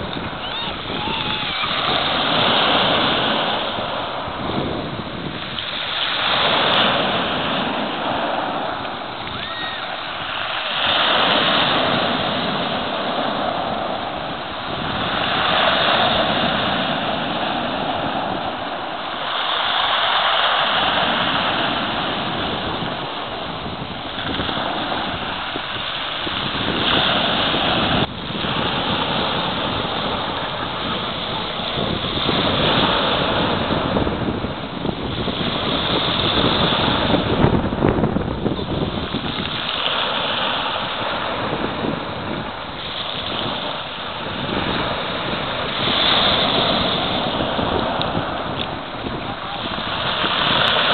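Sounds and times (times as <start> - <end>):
waves breaking: 0.0 - 50.9
wind buffeting microphone: 0.0 - 50.9.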